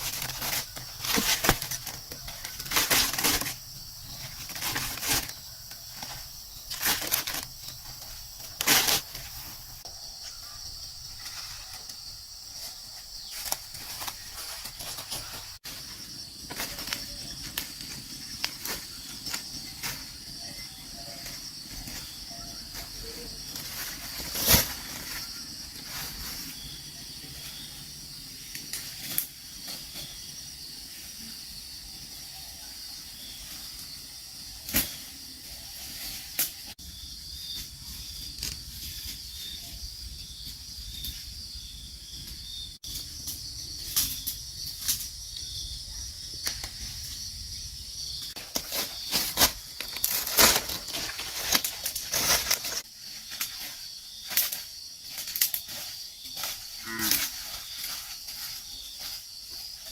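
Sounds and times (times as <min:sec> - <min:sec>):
insect chirring: 0:00.0 - 0:59.9.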